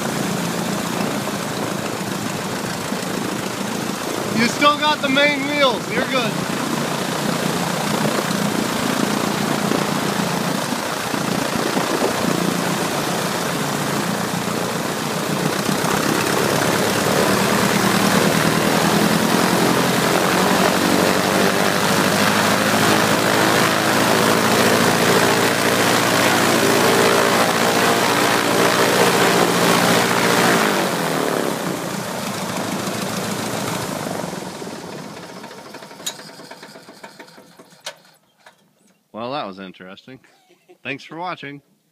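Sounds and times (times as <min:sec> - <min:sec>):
piston engine and propeller running: 0:00.0 - 0:38.6.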